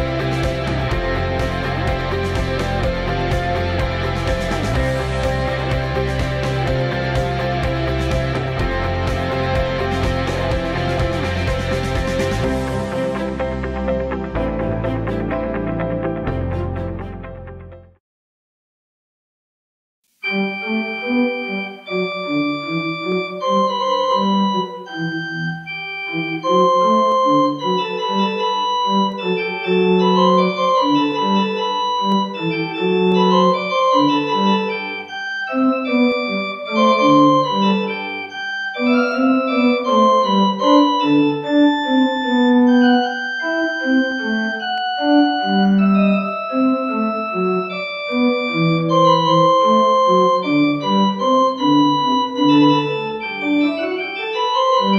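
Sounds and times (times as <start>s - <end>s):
organ playing slow chords: 0.0s - 17.7s, 20.2s - 54.9s.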